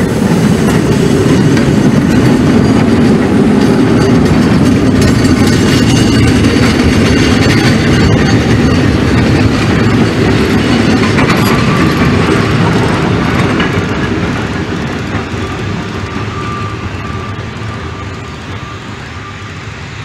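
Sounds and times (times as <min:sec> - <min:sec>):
steam train passing: 0:00.0 - 0:20.0.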